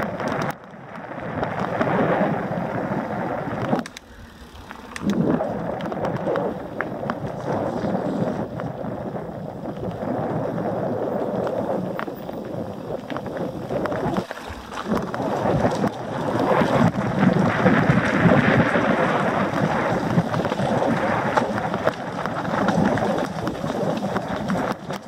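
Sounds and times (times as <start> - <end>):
bike rattling and clicking: 0.0 - 25.0
bike tyres rolling over stones: 0.0 - 25.0
wind buffeting microphone: 0.0 - 25.0.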